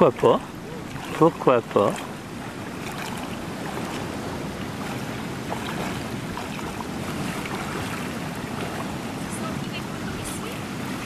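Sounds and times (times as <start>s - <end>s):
legs wading through water: 0.0s - 11.0s
shallow seawater and surf: 0.0s - 11.0s
wind on microphone: 0.0s - 11.0s.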